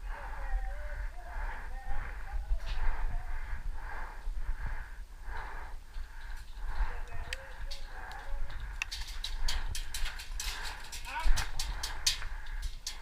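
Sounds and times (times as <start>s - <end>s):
low rumble: 0.0s - 10.7s
wheezy breathing: 0.0s - 13.0s.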